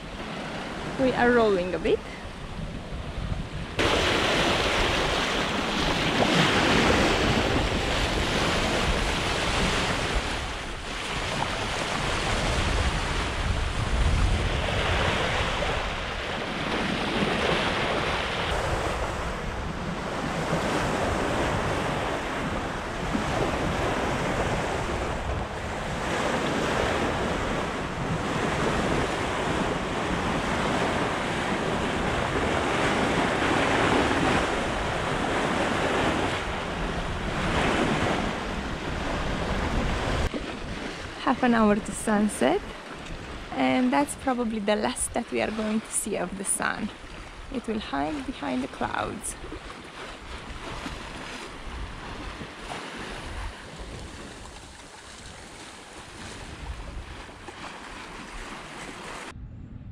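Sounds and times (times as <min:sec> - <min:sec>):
wind buffeting microphone: 0:00.0 - 0:45.9, 0:46.6 - 0:59.9
sea water rushing along a hull: 0:00.0 - 0:59.4.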